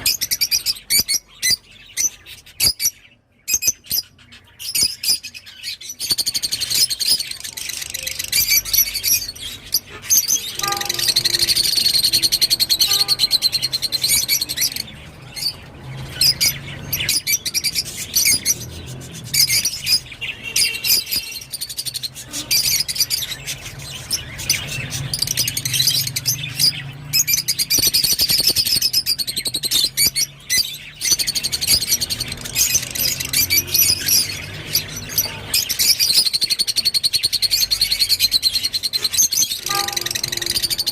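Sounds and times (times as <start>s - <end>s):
lovebirds chirping shrilly: 0.0s - 40.9s.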